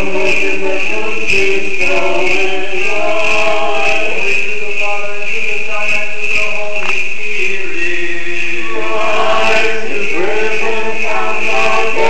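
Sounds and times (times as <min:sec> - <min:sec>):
choir chanting in harmony: 0:00.0 - 0:12.0.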